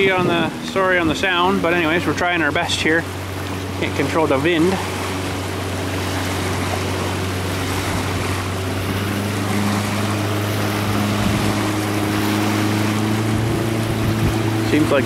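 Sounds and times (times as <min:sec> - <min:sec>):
wind on microphone: 0:00.0 - 0:02.7, 0:04.8 - 0:15.0
higher engine tone: 0:00.0 - 0:15.0.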